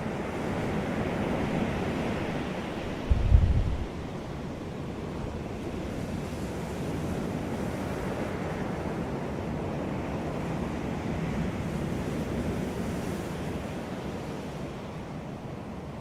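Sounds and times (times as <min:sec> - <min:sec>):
sea waves on a beach: 0:00.0 - 0:16.0.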